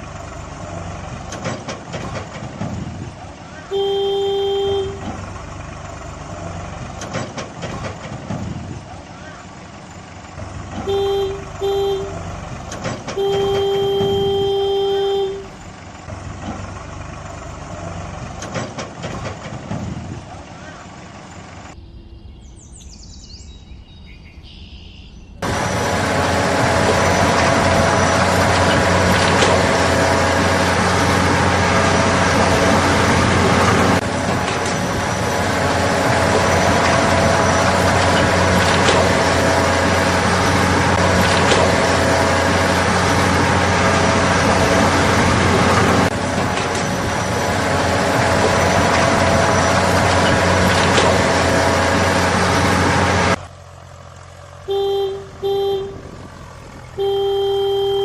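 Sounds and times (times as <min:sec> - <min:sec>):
heavy vehicle engine running: 0:00.0 - 0:22.7, 0:25.3 - 0:58.0.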